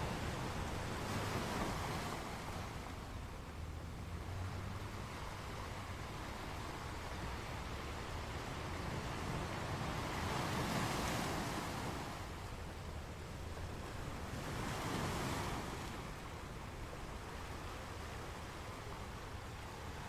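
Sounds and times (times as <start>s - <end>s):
ocean waves surging and washing back: 0.0s - 20.0s.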